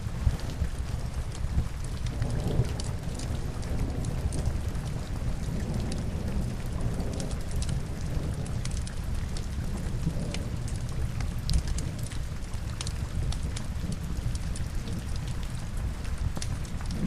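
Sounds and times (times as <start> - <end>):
burning logs crackling: 0.0 - 17.0
steady rain: 0.0 - 17.0.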